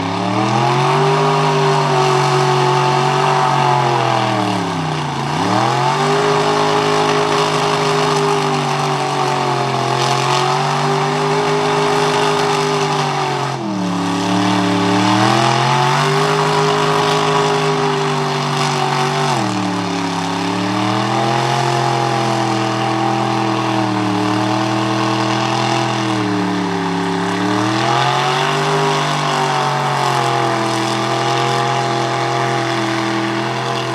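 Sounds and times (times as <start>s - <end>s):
truck engine revving in mud: 0.0s - 33.9s.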